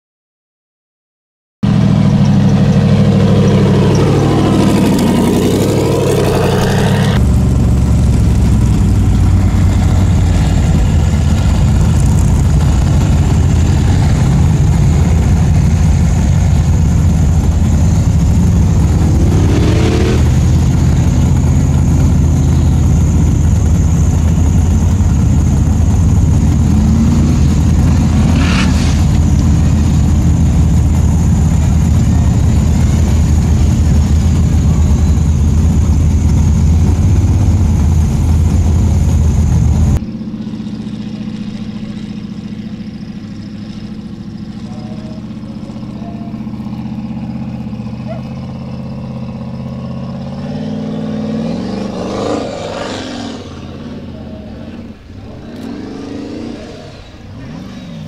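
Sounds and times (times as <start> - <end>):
buggy engine at full throttle: 1.6 - 58.0.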